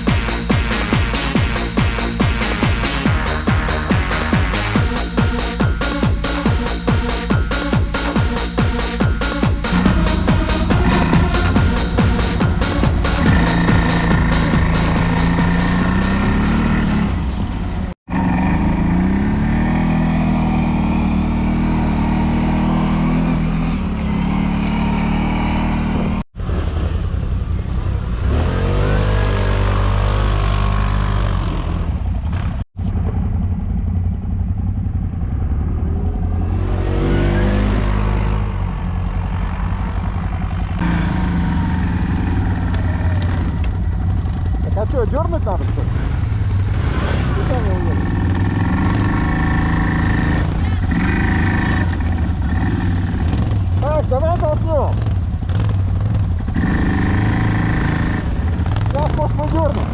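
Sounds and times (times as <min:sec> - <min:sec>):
quad bike engines revving: 0:00.0 - 0:33.2, 0:34.7 - 0:59.9.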